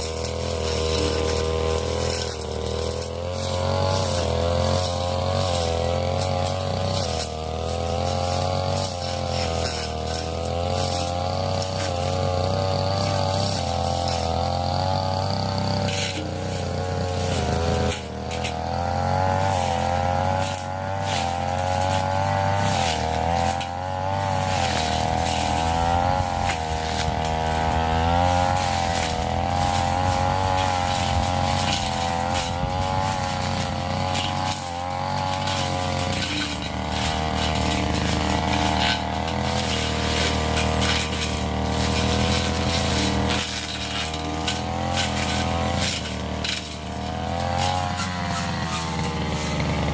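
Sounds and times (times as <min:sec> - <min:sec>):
blade ticking against stems: 0:00.0 - 0:49.9
brush cutter engine: 0:00.0 - 0:49.9.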